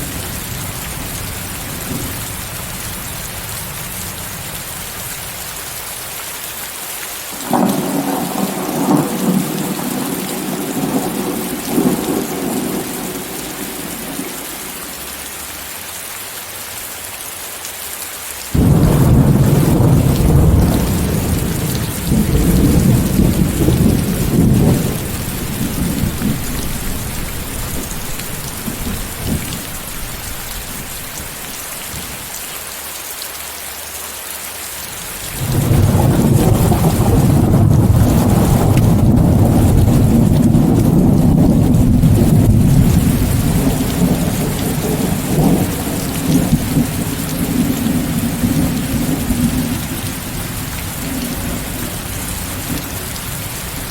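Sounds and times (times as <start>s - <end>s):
thunder rumbling: 0.0s - 5.3s, 7.3s - 15.2s, 18.6s - 32.3s, 35.1s - 53.9s
heavy rain: 0.0s - 53.9s.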